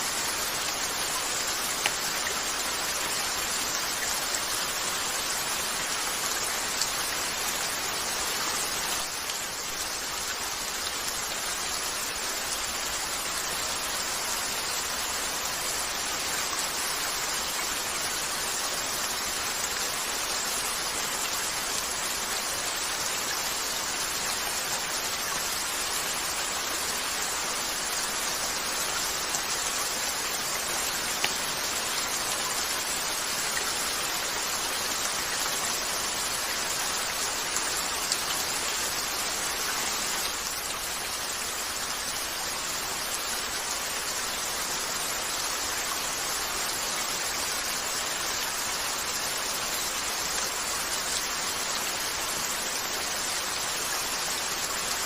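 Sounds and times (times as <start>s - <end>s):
rain on a window pane: 0.0s - 55.0s.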